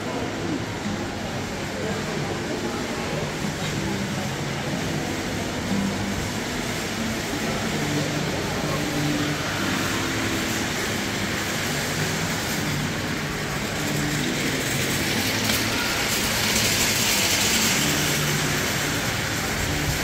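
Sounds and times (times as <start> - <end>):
steady rushing background noise: 0.0 - 20.0.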